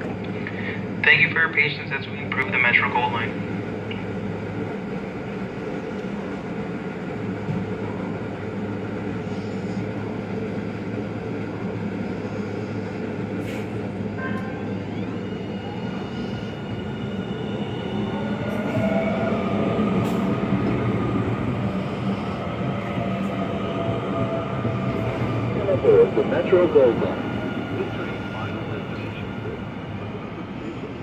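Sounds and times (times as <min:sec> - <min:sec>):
electrical hum of rail car: 0:00.0 - 0:31.0.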